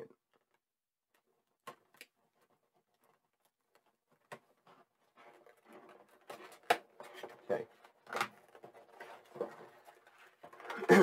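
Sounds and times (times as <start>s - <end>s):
rustling of taped packaging: 1.7s - 11.0s.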